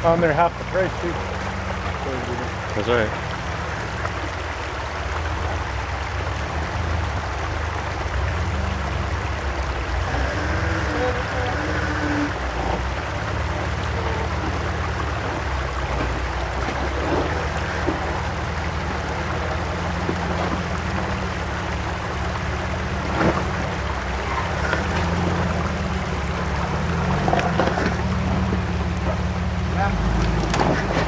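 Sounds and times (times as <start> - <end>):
car engine rumbling at low revs: 0.0 - 31.0.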